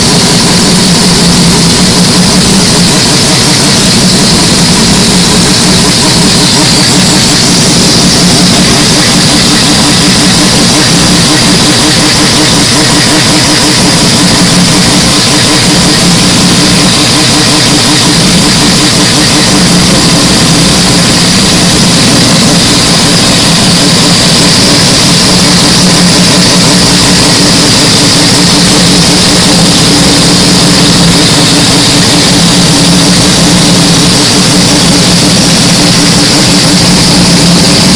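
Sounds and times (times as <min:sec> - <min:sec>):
rotary engine running: 0:00.0 - 0:37.9.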